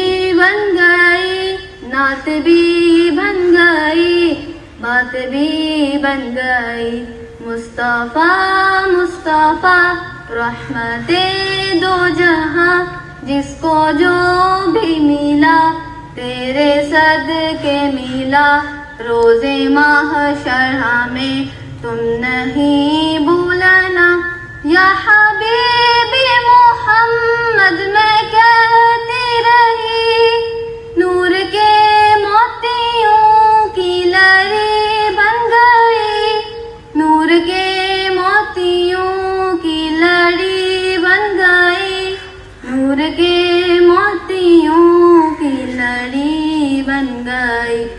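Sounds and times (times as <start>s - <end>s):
girl singing into a microphone: 0.0s - 47.9s.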